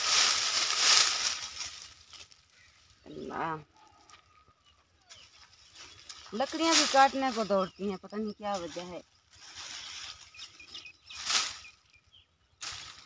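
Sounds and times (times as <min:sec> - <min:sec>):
dry leafy branches rustling: 0:00.0 - 0:13.0.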